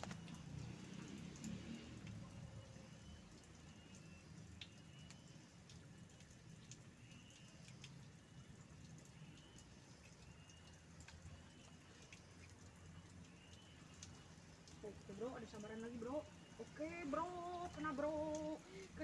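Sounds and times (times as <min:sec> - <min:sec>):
faint bird chirp: 0:02.4 - 0:19.0.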